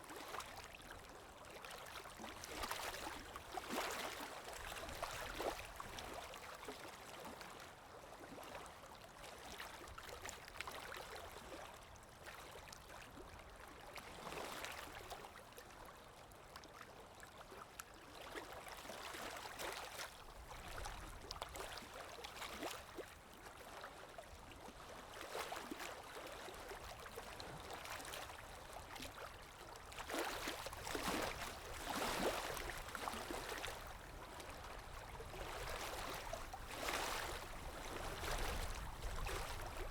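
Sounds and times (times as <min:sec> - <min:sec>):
faint river water lapping: 0:00.0 - 0:39.9.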